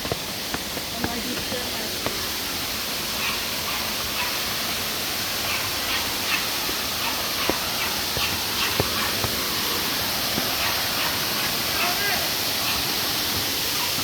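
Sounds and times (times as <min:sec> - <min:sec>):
waterfall and river rushing: 0:00.0 - 0:14.0.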